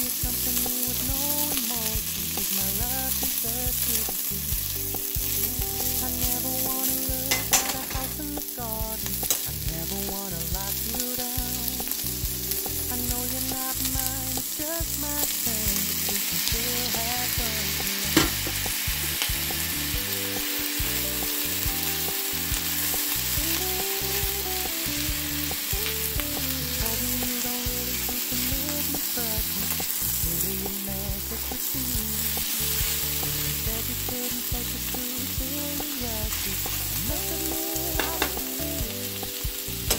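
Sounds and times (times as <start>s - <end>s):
vegetables sizzling in a pan: 0.0s - 39.9s.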